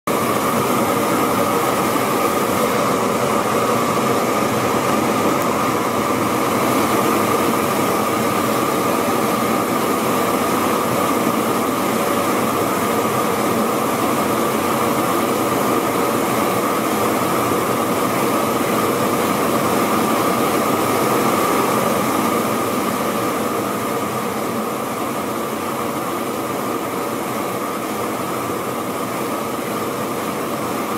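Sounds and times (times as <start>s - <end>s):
gas burners roaring: 0.1s - 30.9s.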